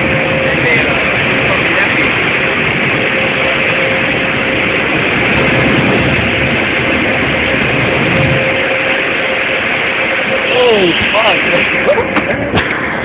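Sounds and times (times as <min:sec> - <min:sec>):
machine rushing and humming: 0:00.0 - 0:13.0.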